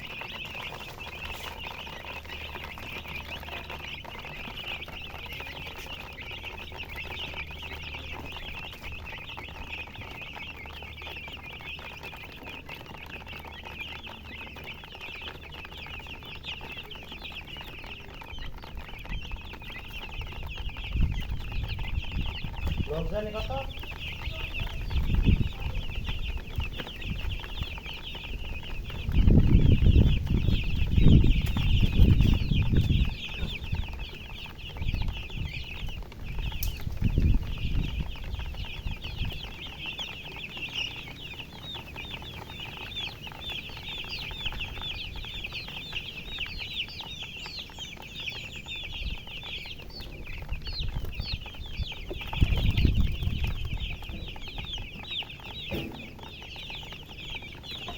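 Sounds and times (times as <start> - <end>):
baby chicks peeping: 0.0 - 57.9
low rumbles: 0.0 - 57.9.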